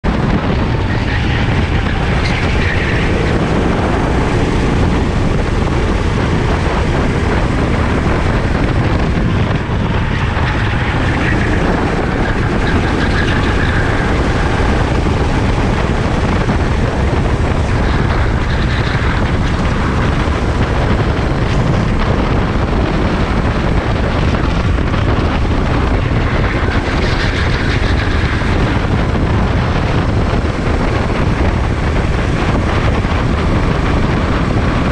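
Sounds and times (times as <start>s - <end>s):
kart engine droning: 0.0s - 34.9s.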